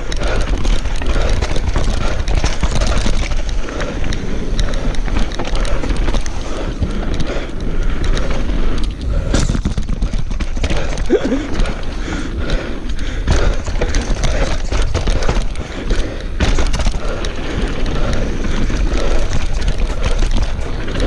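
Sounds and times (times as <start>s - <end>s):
bike chain and frame rattling: 0.0s - 21.0s
tyre roar on dirt: 0.0s - 21.0s.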